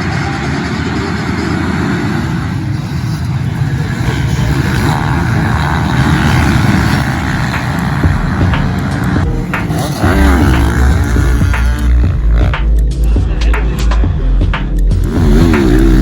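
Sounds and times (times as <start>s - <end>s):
motocross motorcycles running: 0.0s - 13.6s, 14.8s - 16.0s.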